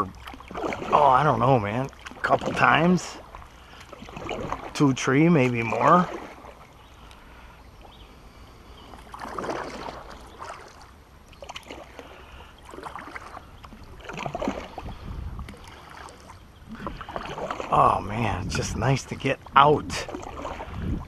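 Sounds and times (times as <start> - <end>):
water splashes and drips: 0.0 - 7.4, 8.9 - 21.0
kayak paddle strokes in water: 0.0 - 18.3, 19.0 - 21.0.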